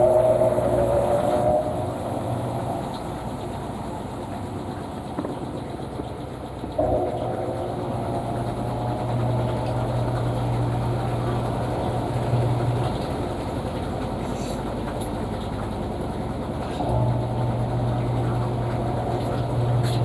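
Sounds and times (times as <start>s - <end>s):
washing machine motor humming: 0.0s - 5.2s, 5.8s - 20.0s
quiet mechanical noise: 0.0s - 20.0s.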